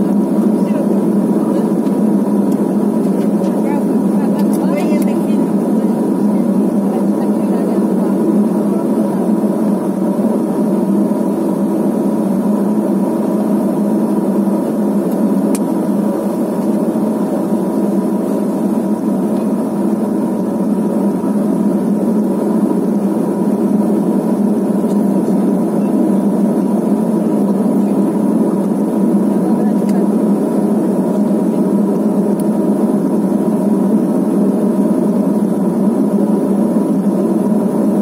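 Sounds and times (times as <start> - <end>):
turboprop engine droning: 0.0 - 38.0.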